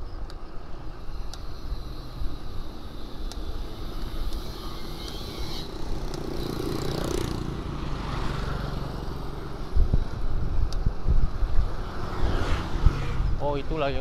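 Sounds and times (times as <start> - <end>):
wind and tyre rumble: 0.0 - 14.0
small motorcycle engine passing: 1.6 - 14.0.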